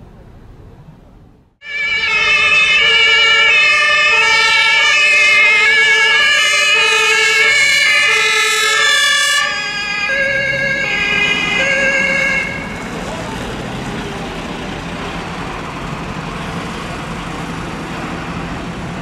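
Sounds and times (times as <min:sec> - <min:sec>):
two-tone fire engine sirens: 0:01.6 - 0:19.0.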